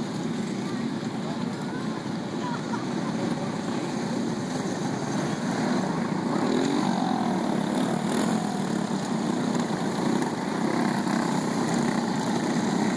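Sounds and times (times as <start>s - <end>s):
go-kart engines racing: 0.0s - 12.9s.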